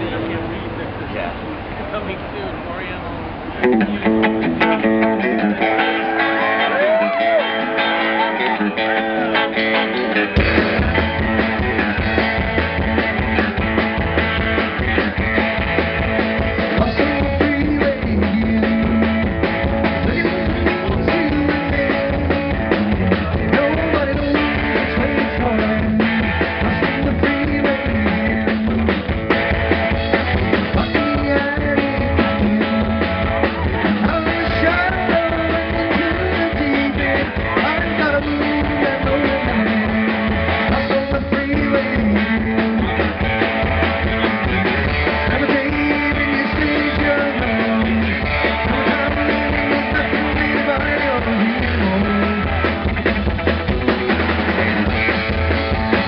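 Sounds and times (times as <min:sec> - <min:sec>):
live rock band playing: 0:00.0 - 0:56.0
melodic guitar line: 0:00.0 - 0:56.0.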